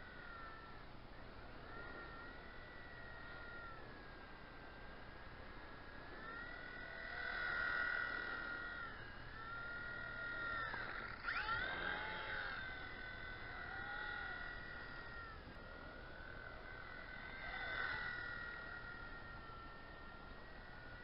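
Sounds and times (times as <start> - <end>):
toy helicopter rotors whining: 0.0 - 21.0.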